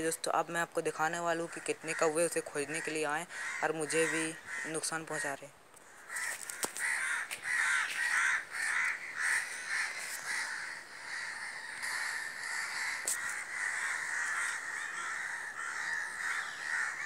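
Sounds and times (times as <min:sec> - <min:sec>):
flock of crows cawing: 0:01.3 - 0:17.0.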